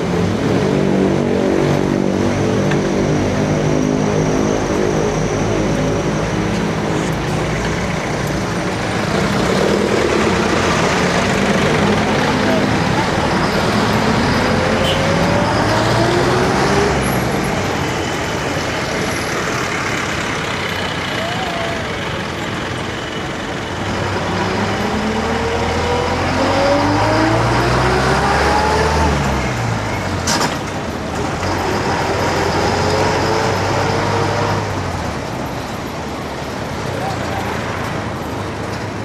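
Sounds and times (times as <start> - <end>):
road noise rush: 0.0 - 39.0
vehicle engine humming: 0.0 - 39.0.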